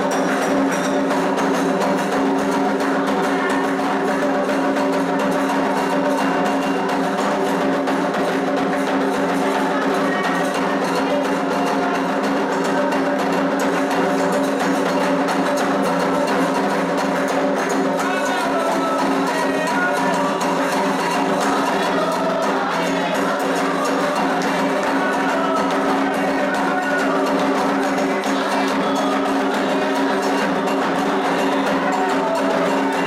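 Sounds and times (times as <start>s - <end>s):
hand drums playing rhythm: 0.0s - 33.0s
struck bell: 0.0s - 33.0s.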